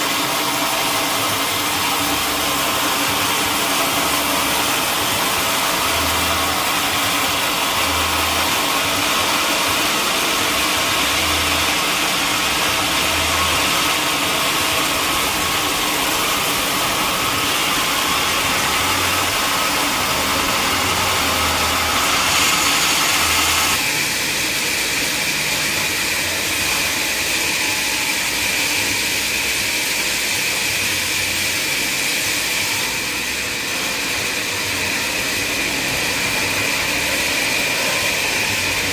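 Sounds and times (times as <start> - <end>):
high machine whine: 0.0 - 38.9
sawmill machinery running: 0.0 - 38.9.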